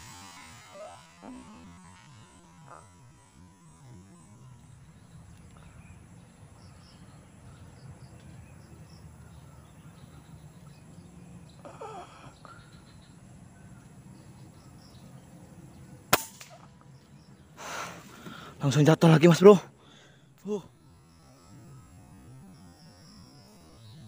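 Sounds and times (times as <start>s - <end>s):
birds and insects: 0.0s - 24.0s.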